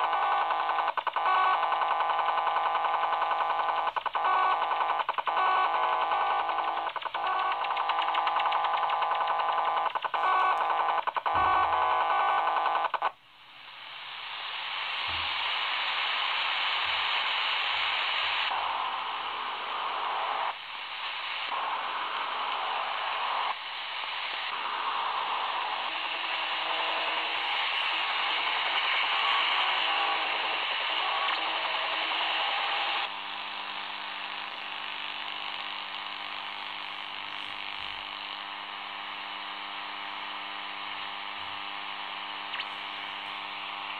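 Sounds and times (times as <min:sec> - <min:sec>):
buzzing radio tone: 0:00.0 - 0:13.2, 0:13.8 - 0:43.9
radio static: 0:00.0 - 0:43.9.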